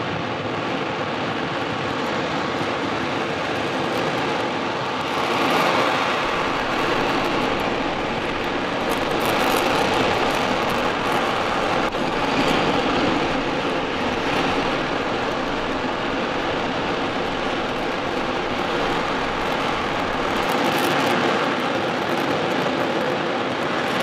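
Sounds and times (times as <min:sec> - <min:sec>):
rocket engine roar: 0:00.0 - 0:24.0.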